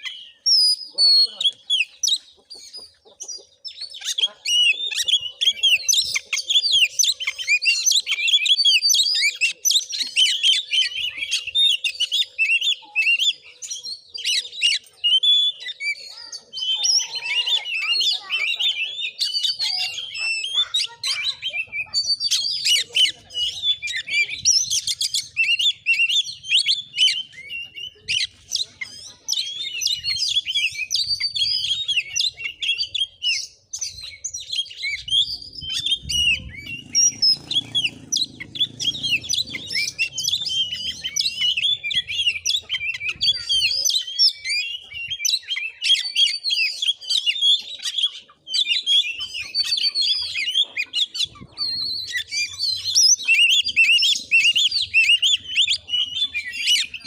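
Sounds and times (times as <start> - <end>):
bird singing chattering song: 0.0 - 57.0.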